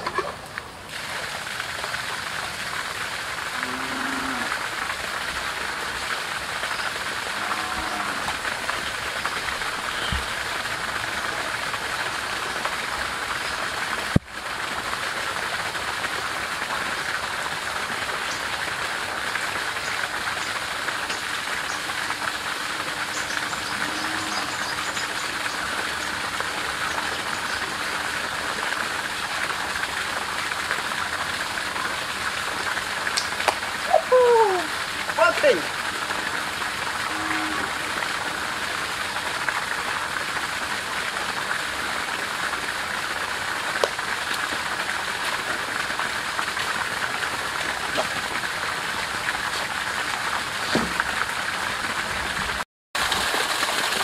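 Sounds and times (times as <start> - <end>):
water gushing onto leaf litter: 0.0 - 54.0.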